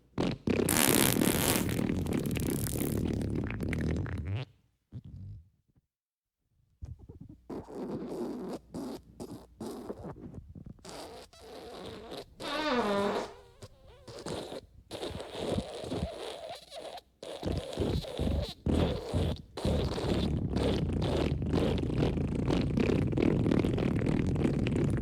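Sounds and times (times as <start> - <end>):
fart sounds: 0.1 - 5.5, 6.8 - 25.0.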